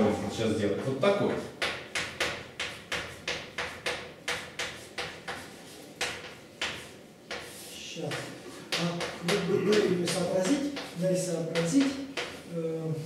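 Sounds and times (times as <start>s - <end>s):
chalk writing on a blackboard: 1.3s - 13.0s.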